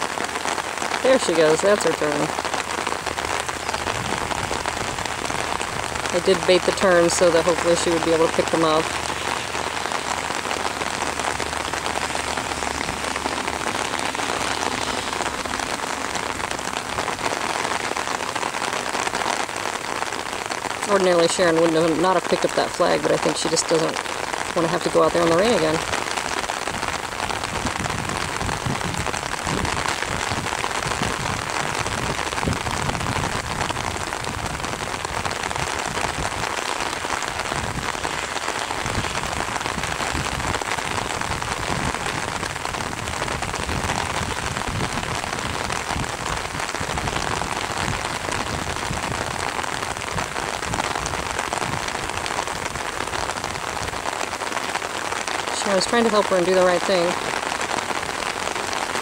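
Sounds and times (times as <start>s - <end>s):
raindrops on an umbrella: 0.0s - 59.0s
steady rain: 0.0s - 59.0s.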